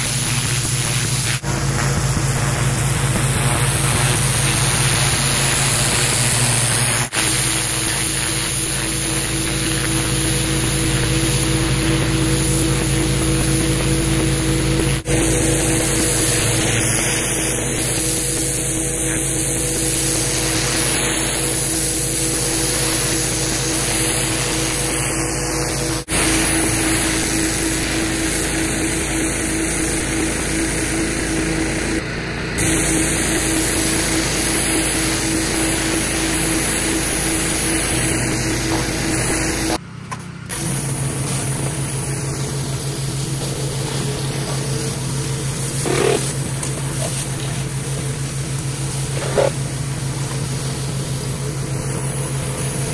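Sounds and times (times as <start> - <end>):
water jet hissing on concrete: 0.0 - 32.0, 32.6 - 39.8, 40.5 - 52.9
pressure washer drone: 0.0 - 52.9.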